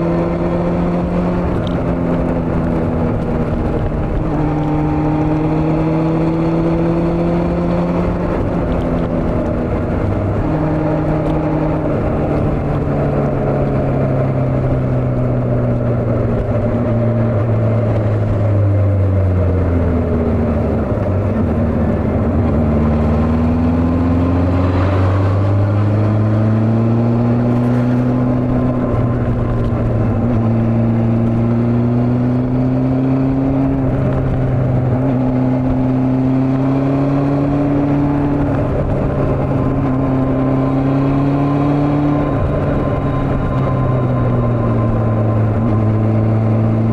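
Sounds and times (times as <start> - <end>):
motorcycle engine: 0.0 - 46.9.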